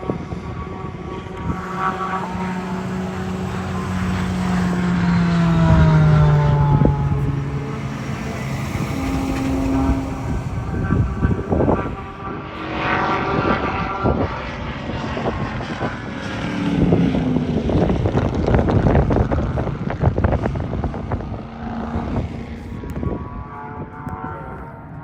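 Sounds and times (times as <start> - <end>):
crackly gusty noise: 0.0 - 25.0
race car engines passing by: 0.0 - 25.0.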